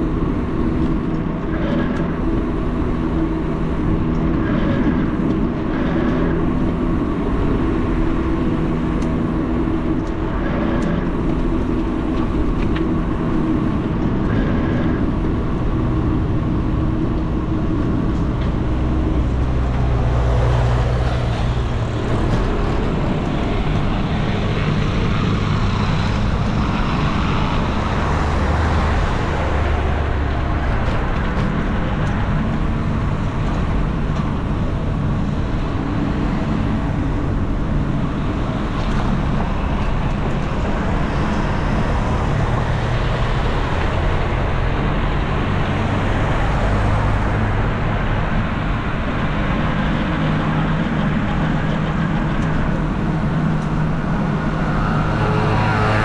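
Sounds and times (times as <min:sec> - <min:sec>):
engines humming: 0:00.0 - 0:56.0
traffic wash: 0:00.0 - 0:56.0.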